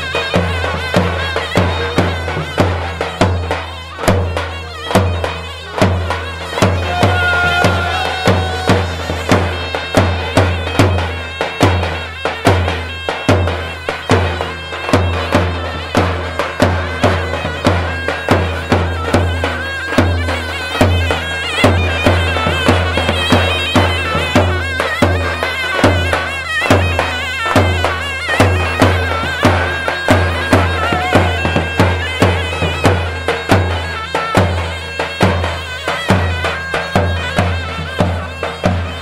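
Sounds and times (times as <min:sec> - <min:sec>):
wavering reed shawm melody: 0:00.0 - 0:39.0.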